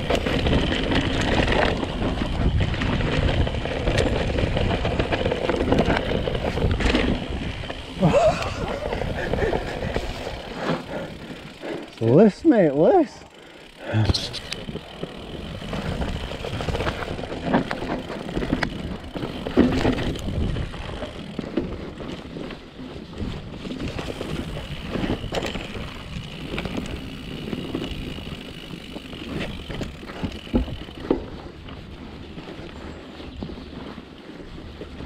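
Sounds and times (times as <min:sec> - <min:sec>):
bike rattling and knocking: 0:00.0 - 0:35.0
bike tyres rolling over dirt: 0:00.0 - 0:35.0.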